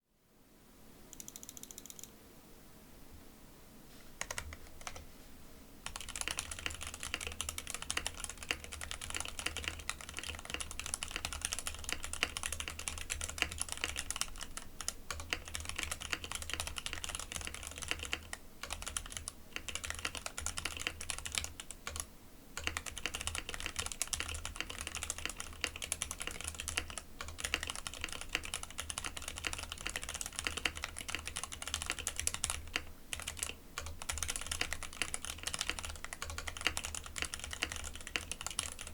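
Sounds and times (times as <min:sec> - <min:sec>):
mechanical keyboard typing: 0:01.1 - 0:02.1, 0:04.2 - 0:05.0, 0:05.8 - 0:38.9.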